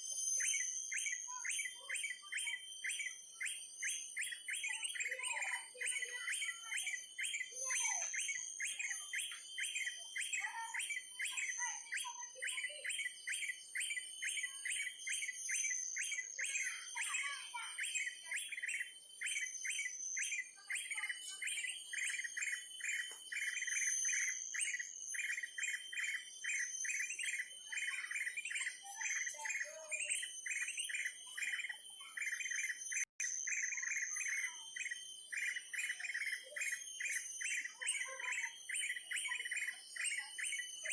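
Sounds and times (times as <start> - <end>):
bird chirping: 0.2 - 40.9.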